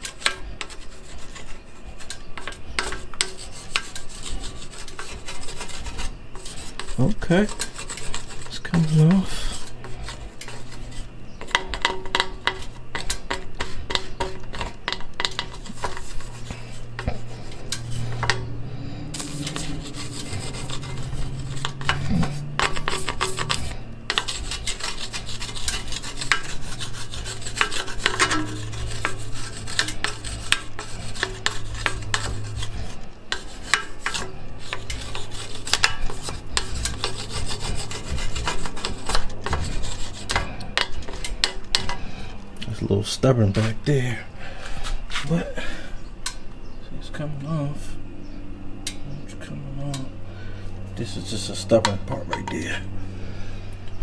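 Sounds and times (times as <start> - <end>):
plastic spoon scraping metal pipe: 0.0 - 42.8, 51.0 - 52.8
low steady hum: 0.0 - 54.0.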